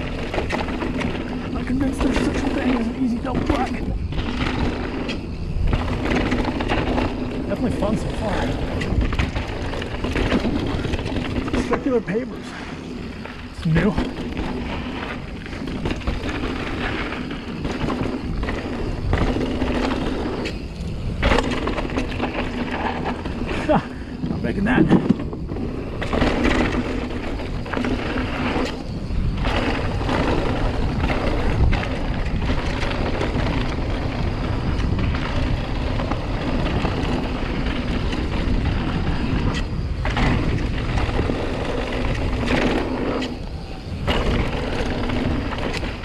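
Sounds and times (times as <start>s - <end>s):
bike knocks and rattles: 0.0s - 46.0s
wind and tyre noise: 0.0s - 46.0s.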